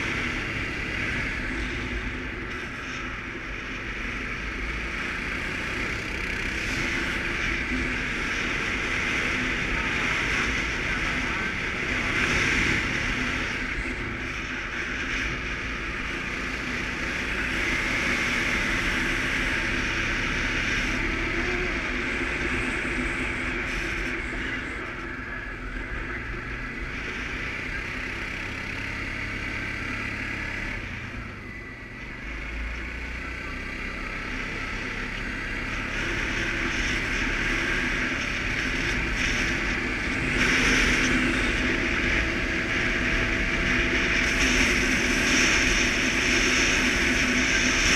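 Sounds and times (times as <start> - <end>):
atv engine running: 0.0 - 47.9
road noise: 0.0 - 47.9.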